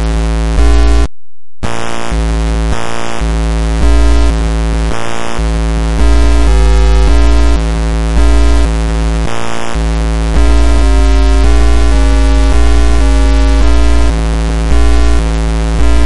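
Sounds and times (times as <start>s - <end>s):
harsh electronic buzz tones: 0.0s - 16.0s.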